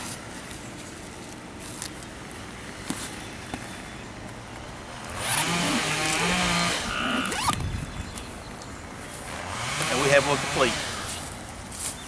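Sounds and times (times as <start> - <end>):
engine humming: 0.0 - 11.9.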